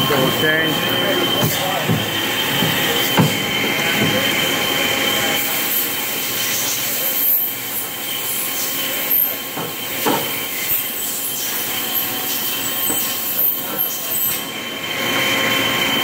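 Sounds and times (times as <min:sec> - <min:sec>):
machine running with high whine: 0:00.0 - 0:16.0.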